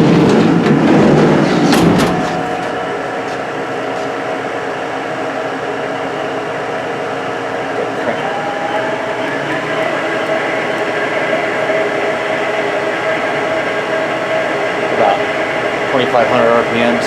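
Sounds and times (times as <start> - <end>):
machine spindle whine: 0.0 - 17.0.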